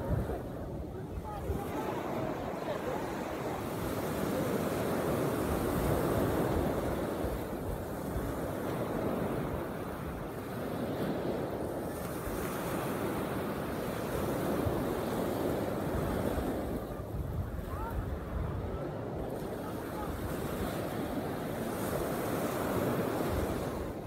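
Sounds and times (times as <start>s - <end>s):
small waves breaking on shore: 0.0s - 24.0s
wind rumbling on microphone: 0.0s - 24.0s.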